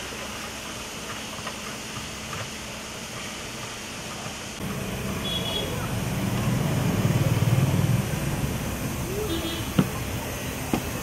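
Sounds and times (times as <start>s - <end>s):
street background hiss: 0.0s - 11.0s.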